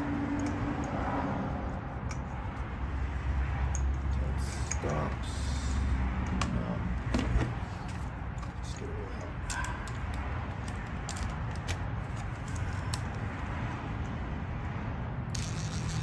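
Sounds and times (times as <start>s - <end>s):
hand tools and metal clinking: 0.0s - 2.9s, 3.6s - 14.2s
steady low rumble: 0.0s - 16.0s.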